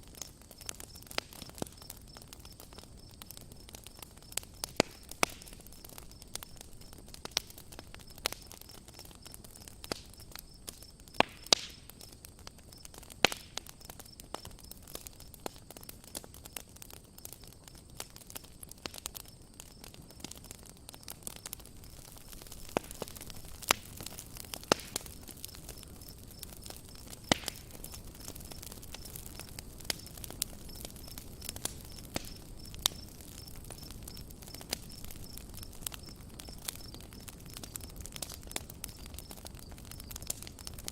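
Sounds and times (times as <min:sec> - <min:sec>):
faint fire hiss: 0:00.0 - 0:40.9
wood crackling in campfire: 0:00.0 - 0:40.9.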